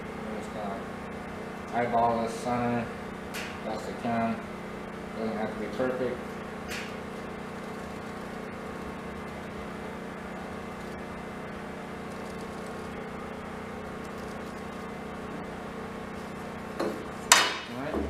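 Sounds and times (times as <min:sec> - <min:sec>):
low workshop hum: 0:00.0 - 0:18.0.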